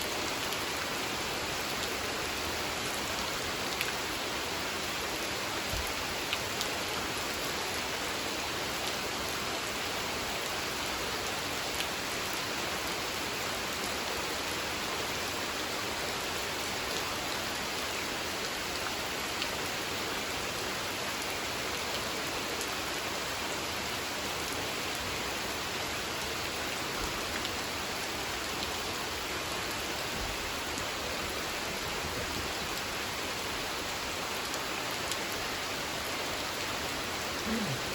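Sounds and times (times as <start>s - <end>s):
gentle rain hiss: 0.0s - 37.9s.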